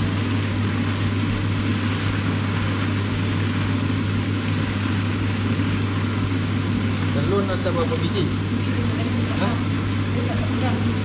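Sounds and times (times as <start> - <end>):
constant low hum: 0.0 - 11.0
noodles stir-frying in a wok: 0.0 - 11.0.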